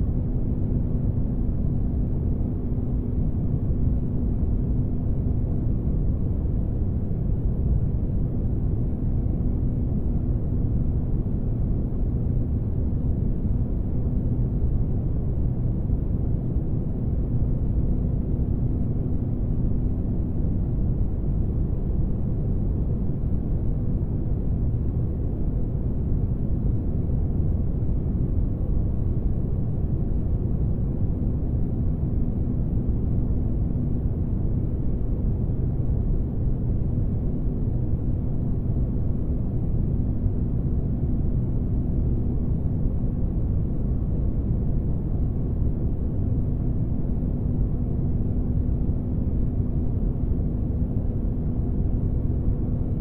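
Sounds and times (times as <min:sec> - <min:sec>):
faint steady hum tone: 0:00.0 - 0:53.0.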